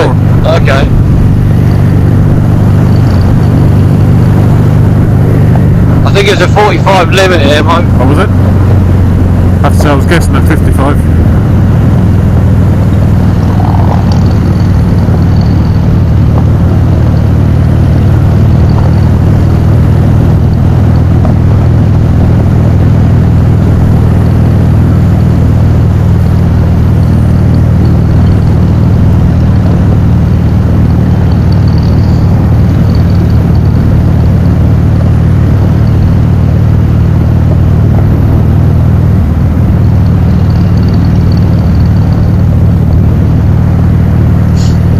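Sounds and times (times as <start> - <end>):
wind noise: 0.0 - 34.2, 37.4 - 43.7
motorcycle engine drone: 0.0 - 44.9.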